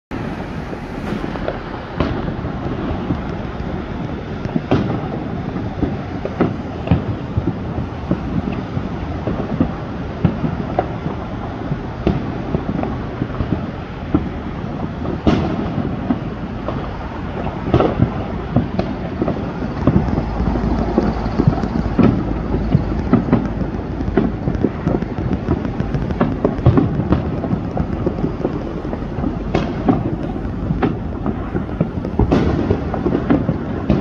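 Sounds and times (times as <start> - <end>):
fireworks booming: 0.1 - 34.0
sharp firework bangs: 0.1 - 34.0.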